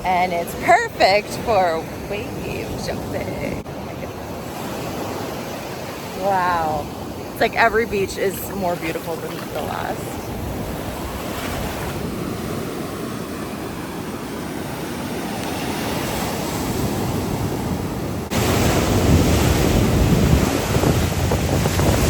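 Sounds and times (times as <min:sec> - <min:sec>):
wind buffeting microphone: 0:00.0 - 0:15.1, 0:15.9 - 0:22.0
ocean surf on a beach: 0:00.0 - 0:22.0.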